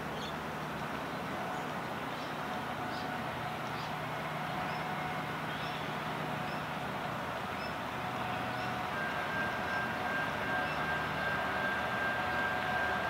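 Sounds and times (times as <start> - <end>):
distant locomotive engine hum: 0.0 - 13.0.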